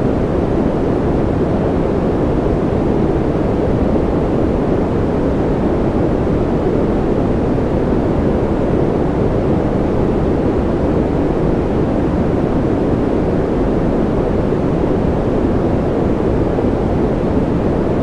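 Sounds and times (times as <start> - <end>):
steady white noise hiss: 0.0 - 18.0.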